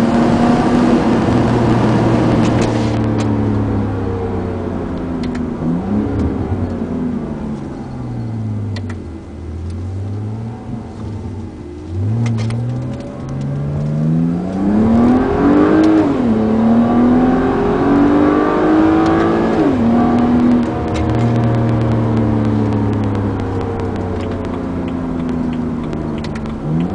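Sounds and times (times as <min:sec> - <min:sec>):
car engine accelerating: 0:00.0 - 0:26.9.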